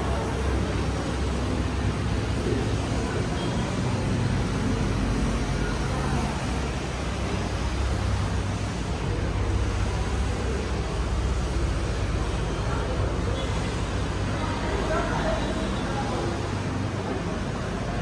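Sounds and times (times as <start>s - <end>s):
shopping mall background din: 0.0s - 18.0s.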